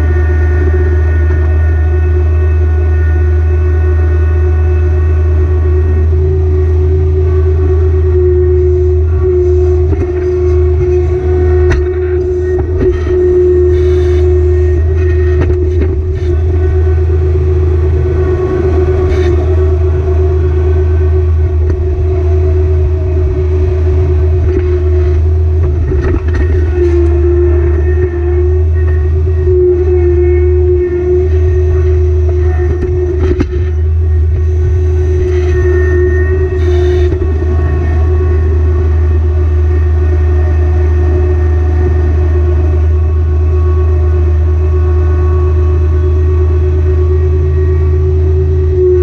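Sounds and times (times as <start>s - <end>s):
steady whine: 0.0s - 49.0s
tractor diesel engine running: 0.0s - 49.0s.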